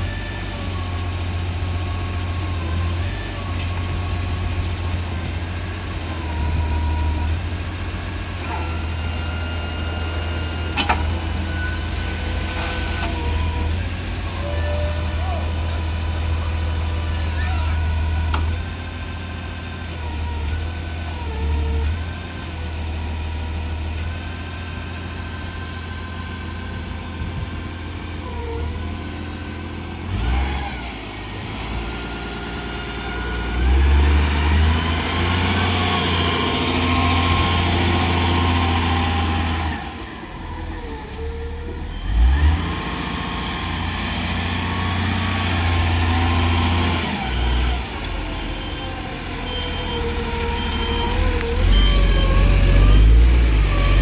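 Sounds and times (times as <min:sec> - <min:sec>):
forklift diesel engine revving: 0:00.0 - 0:54.0.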